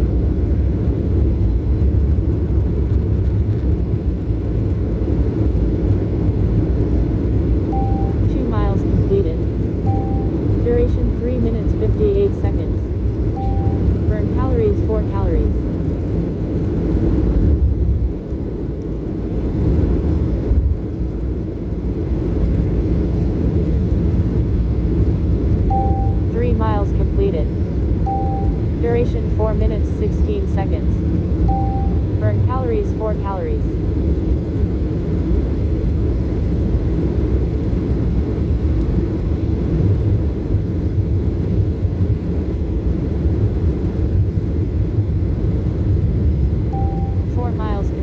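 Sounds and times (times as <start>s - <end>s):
jet engines rumbling in cabin: 0.0s - 48.0s.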